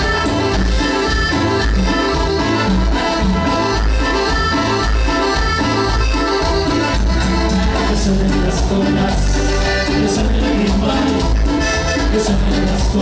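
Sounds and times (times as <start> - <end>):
latin dance band over loudspeakers: 0.0 - 13.0.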